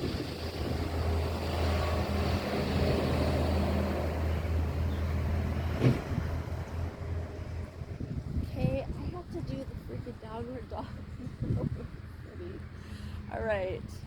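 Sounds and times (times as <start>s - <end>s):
vehicle engine hum: 0.0s - 14.0s
wind and tyre noise: 0.0s - 14.0s.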